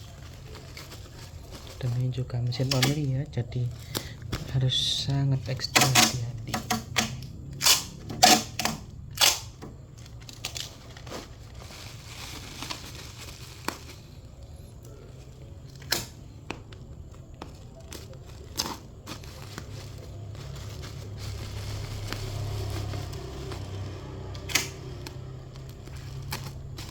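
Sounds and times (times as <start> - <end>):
plastic wrap and tape tearing: 0.0 - 15.0, 17.1 - 26.9.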